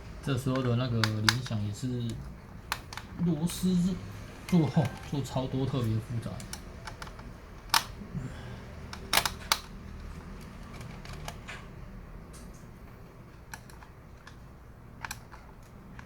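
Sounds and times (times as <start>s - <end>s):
sharp clicks of laptop parts: 0.5s - 3.2s, 4.4s - 8.1s, 8.7s - 16.0s.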